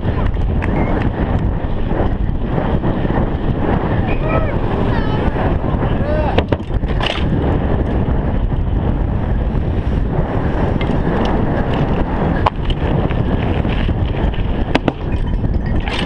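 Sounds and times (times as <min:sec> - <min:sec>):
bike rattling clacks: 0:00.0 - 0:16.0
bike tyres rolling on asphalt: 0:00.0 - 0:16.0
wind rushing over microphone: 0:00.0 - 0:16.0.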